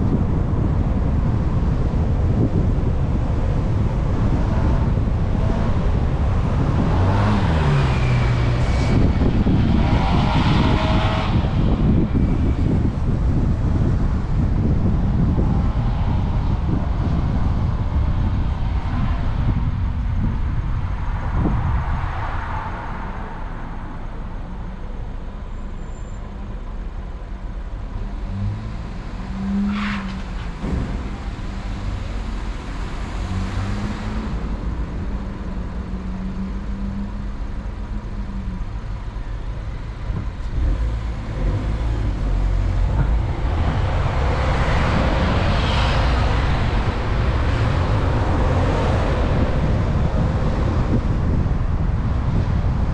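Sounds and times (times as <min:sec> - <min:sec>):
car road and wind noise: 0:00.0 - 0:52.9.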